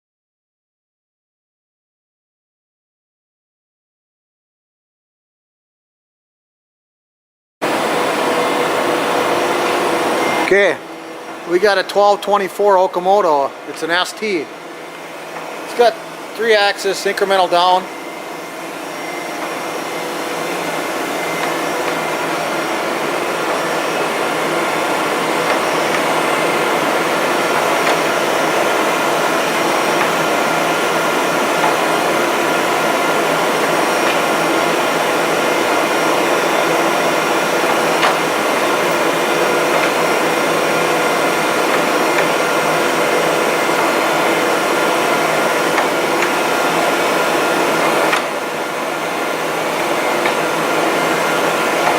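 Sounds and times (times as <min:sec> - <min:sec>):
surface grinder whirring: 0:07.6 - 0:11.7, 0:13.3 - 0:51.9.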